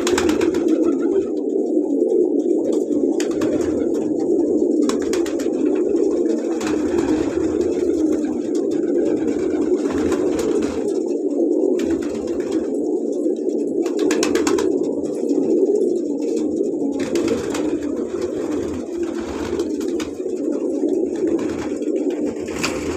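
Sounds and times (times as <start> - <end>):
pigeons cooing: 0.0 - 22.9.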